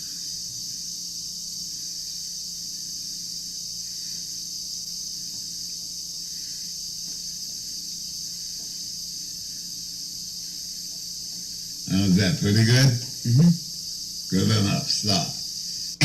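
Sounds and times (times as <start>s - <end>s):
milling machine humming and hissing: 0.0s - 16.0s.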